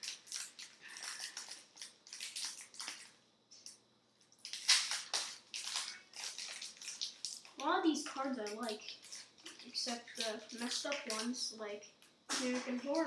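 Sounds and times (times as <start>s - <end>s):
card packaging rustling: 0.0s - 3.7s, 4.4s - 11.4s.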